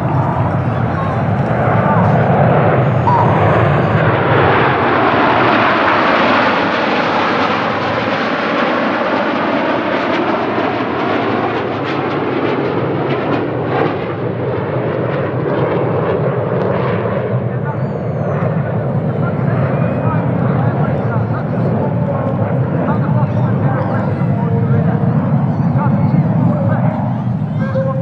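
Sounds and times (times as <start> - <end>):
jet aircraft roar: 0.0 - 28.0.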